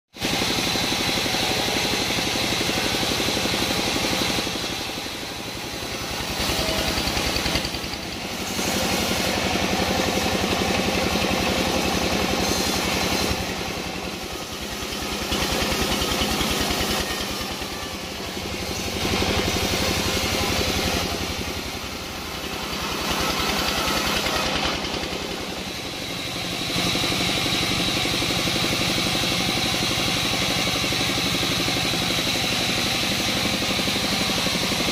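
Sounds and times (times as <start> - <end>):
sawmill engine running: 0.2 - 34.9.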